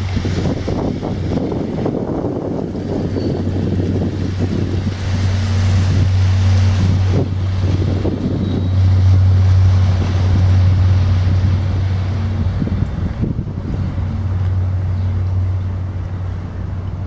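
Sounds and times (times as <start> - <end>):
deep ship engine drone: 0.0 - 17.0
wind buffeting microphone: 0.0 - 17.0.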